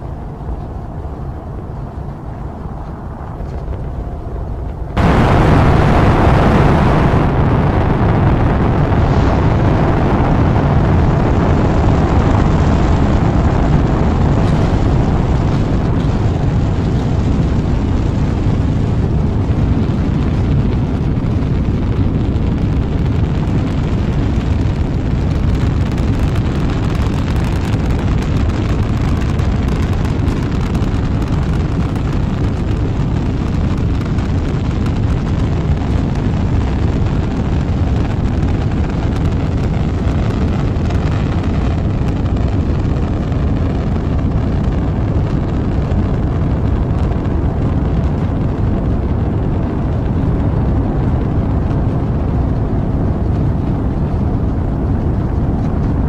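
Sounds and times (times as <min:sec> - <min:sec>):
rocket engines roaring: 0:00.0 - 0:56.0.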